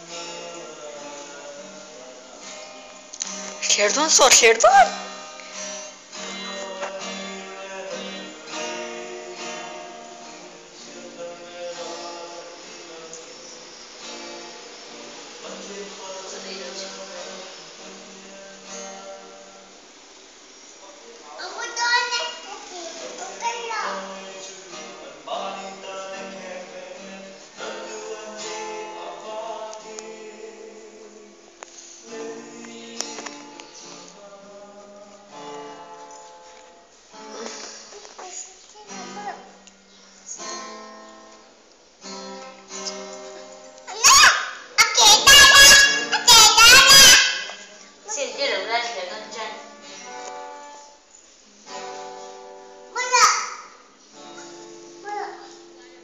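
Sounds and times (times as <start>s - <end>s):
strummed acoustic guitar chords: 0.0s - 56.0s.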